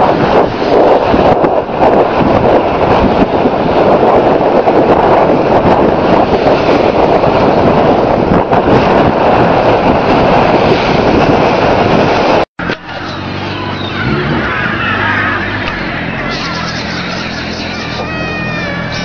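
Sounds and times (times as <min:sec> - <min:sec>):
surf: 0:00.0 - 0:19.0
wind buffeting microphone: 0:00.0 - 0:19.0.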